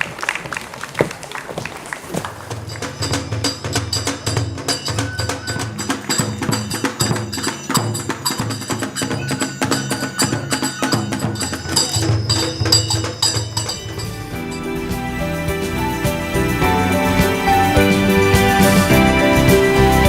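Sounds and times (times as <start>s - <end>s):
fast wooden percussion music: 2.4s - 20.0s.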